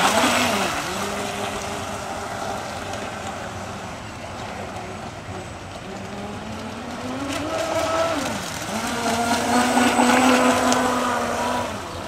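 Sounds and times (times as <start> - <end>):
model boat electric motor whining: 0.0 - 12.0.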